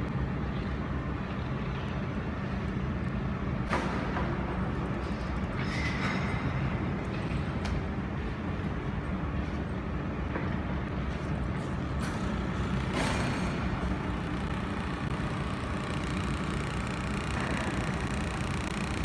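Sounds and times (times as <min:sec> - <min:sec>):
welding machine hum and hiss: 0:00.0 - 0:19.0.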